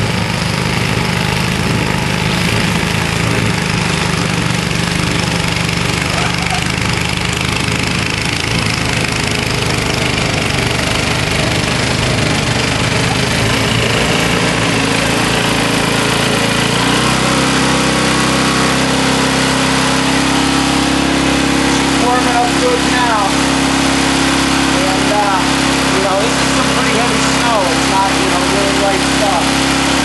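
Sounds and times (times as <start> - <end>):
snowblower engine running: 0.0 - 30.0.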